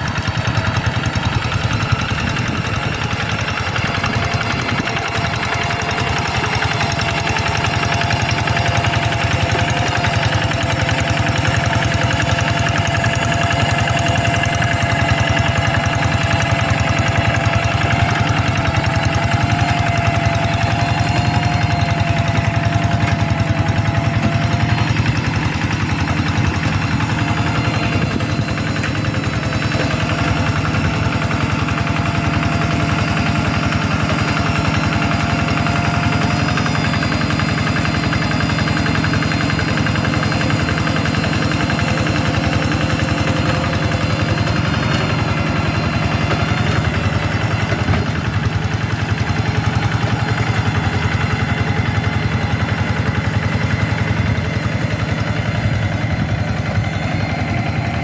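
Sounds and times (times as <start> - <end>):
hand tractor engine chugging: 0.0 - 58.0.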